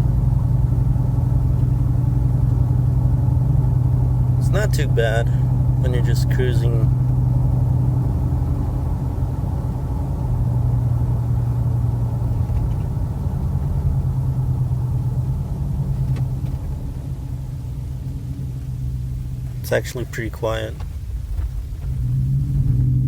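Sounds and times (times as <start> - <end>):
truck engine cruising: 0.0 - 23.0.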